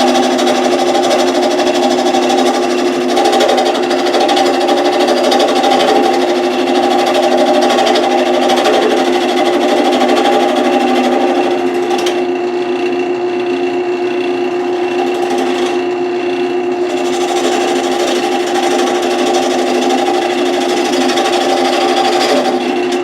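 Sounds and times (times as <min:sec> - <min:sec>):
lathe motor hum: 0:00.0 - 0:23.0
tool cutting spinning wood: 0:00.0 - 0:23.0.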